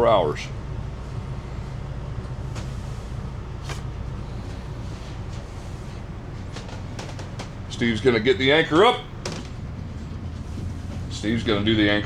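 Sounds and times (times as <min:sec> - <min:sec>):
boat engines droning: 0:00.0 - 0:12.0.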